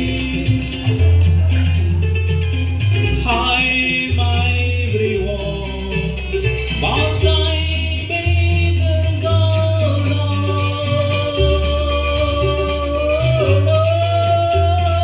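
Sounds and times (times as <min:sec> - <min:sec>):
deep bass notes: 0:00.0 - 0:15.0
plucked strings: 0:00.0 - 0:15.0
sung or played melody: 0:00.0 - 0:15.0.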